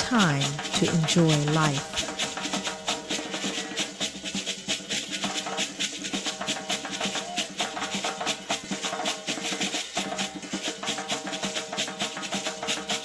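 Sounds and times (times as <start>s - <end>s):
fast dance drumming: 0.0s - 13.0s.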